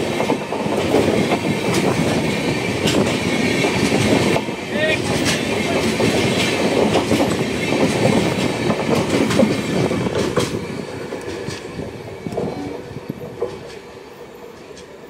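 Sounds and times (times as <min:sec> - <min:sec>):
train coaches rumbling past: 0:00.0 - 0:15.0
wheels clattering on rails: 0:00.0 - 0:15.0.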